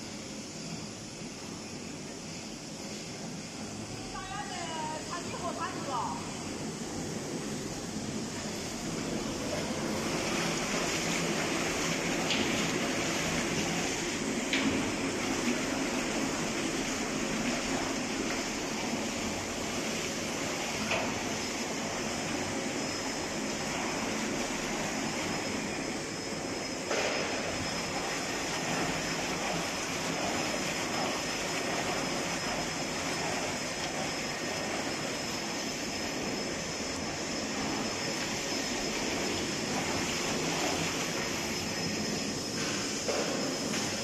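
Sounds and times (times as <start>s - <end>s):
high steady whine: 0.0s - 44.0s
mixer agitator churning liquid: 0.0s - 44.0s.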